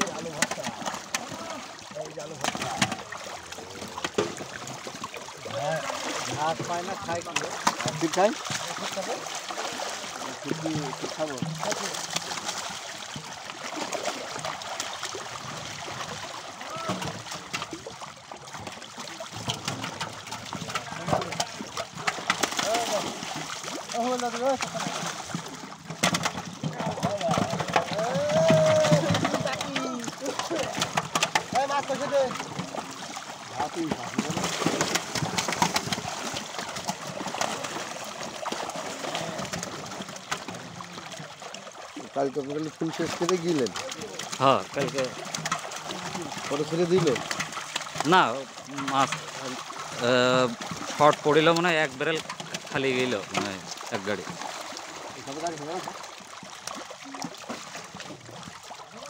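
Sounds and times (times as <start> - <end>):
running water: 0.0 - 59.0
water splashing and dripping: 0.0 - 59.0.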